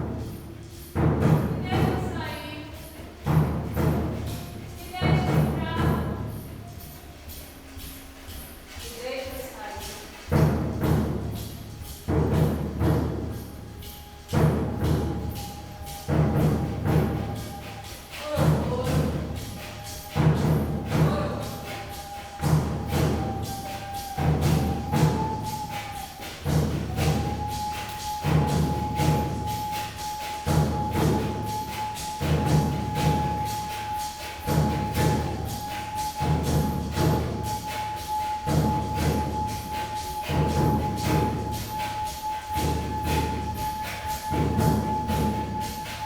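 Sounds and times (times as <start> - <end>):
quick light percussion strikes: 0.0 - 46.0.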